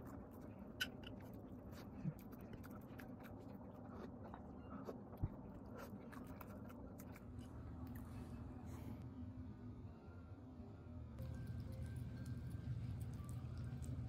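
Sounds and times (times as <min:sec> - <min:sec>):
soft chewing: 0:00.0 - 0:09.0, 0:11.2 - 0:14.0.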